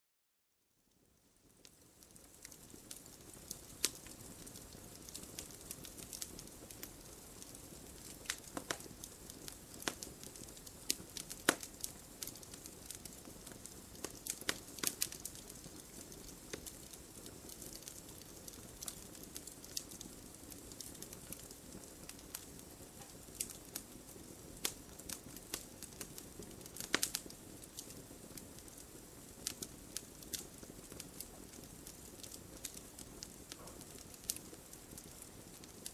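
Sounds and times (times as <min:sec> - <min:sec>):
wood crackling and popping: 0:00.9 - 0:35.9
campfire hissing: 0:01.5 - 0:35.9.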